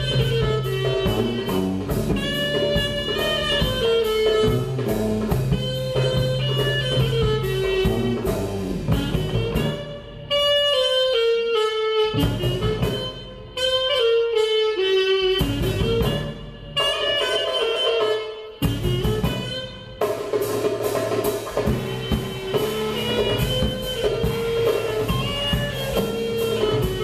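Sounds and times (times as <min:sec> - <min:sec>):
electric bass: 0:00.0 - 0:17.6, 0:18.6 - 0:27.0
clarinet melody: 0:00.0 - 0:27.0
drum kit: 0:00.0 - 0:27.0.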